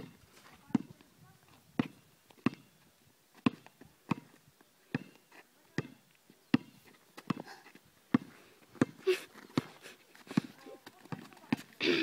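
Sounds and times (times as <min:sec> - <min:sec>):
basketball bouncing on asphalt: 0:00.0 - 0:01.1, 0:01.8 - 0:02.7, 0:03.3 - 0:07.4, 0:08.1 - 0:11.8.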